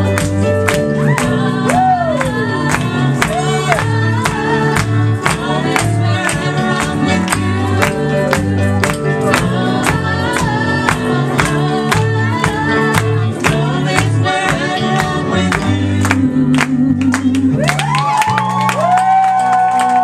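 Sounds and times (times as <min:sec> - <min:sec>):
people singing: 0:00.0 - 0:17.6
live band playing: 0:00.0 - 0:19.0
audience clapping along: 0:00.0 - 0:20.0.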